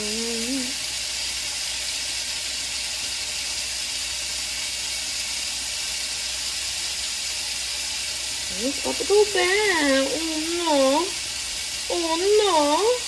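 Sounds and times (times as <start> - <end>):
faucet running into sink: 0.0 - 13.0.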